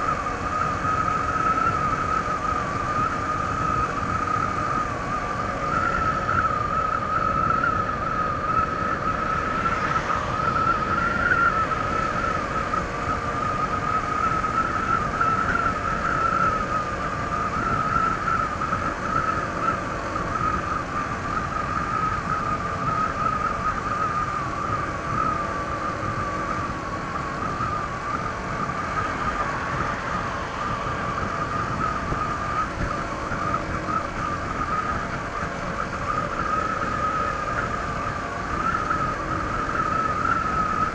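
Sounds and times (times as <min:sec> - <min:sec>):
high engine whine: 0:00.0 - 0:40.9.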